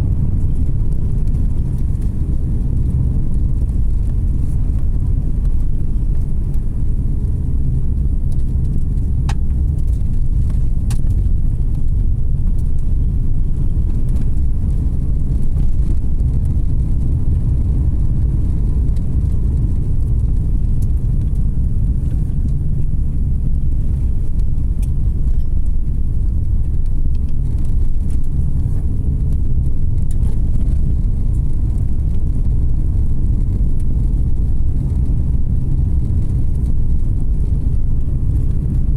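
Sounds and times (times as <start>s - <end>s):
car tyre and engine rumble: 0.0s - 38.9s.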